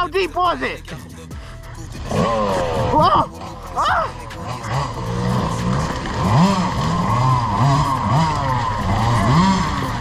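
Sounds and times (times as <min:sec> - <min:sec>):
dirt bike motor revving: 0:01.9 - 0:10.0.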